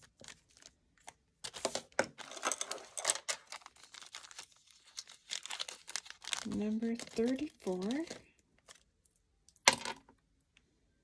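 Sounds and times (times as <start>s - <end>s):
plastic bags crinkling: 0.0s - 8.9s.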